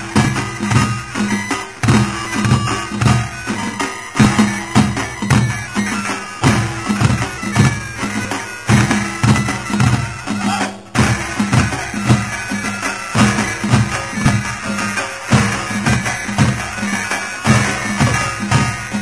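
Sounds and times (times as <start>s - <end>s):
heavy drum strokes: 0.0s - 19.0s
reedy wind instrument melody: 0.0s - 19.0s.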